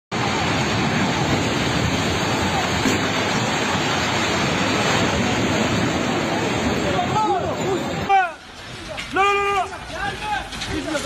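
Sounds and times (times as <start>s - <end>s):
building collapsing roar: 0.1s - 11.0s.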